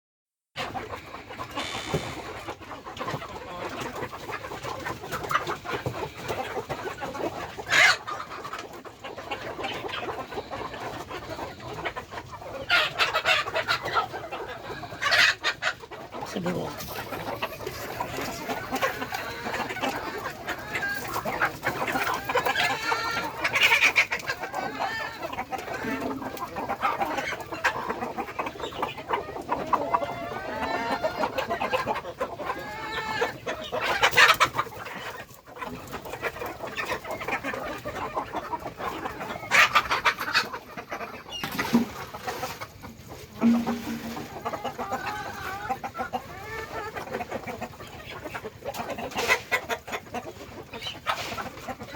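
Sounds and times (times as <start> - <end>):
chickens clucking: 0.6 - 51.9.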